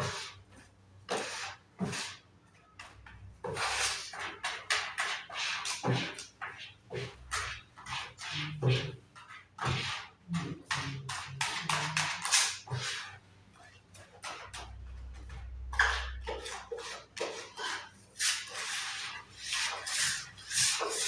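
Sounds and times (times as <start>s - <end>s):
scraping strokes on wood: 0.0s - 21.0s.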